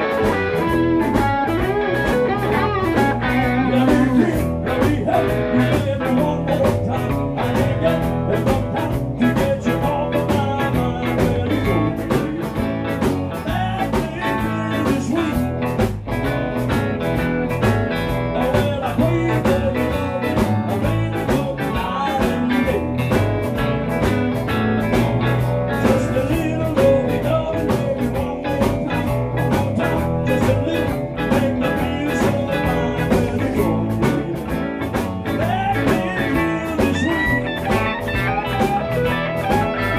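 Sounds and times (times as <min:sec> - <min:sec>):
bass guitar: 0:00.0 - 0:39.9
drum beat: 0:00.0 - 0:39.9
electric guitars: 0:00.0 - 0:39.9.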